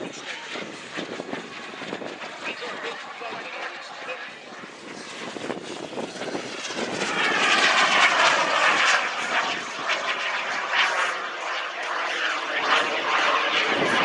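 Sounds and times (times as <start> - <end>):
jet engine flying past: 0.0 - 14.0.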